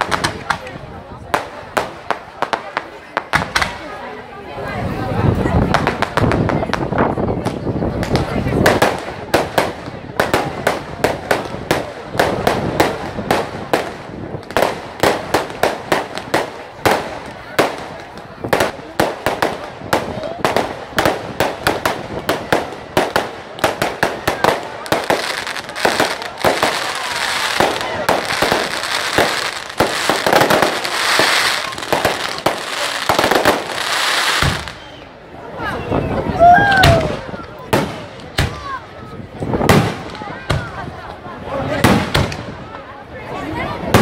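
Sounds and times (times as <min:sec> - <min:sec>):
fireworks bangs: 0:00.0 - 0:04.0, 0:05.2 - 0:35.1, 0:36.7 - 0:42.8, 0:43.8 - 0:44.0
fireworks crackling: 0:00.0 - 0:04.2, 0:04.9 - 0:35.3, 0:36.2 - 0:44.0.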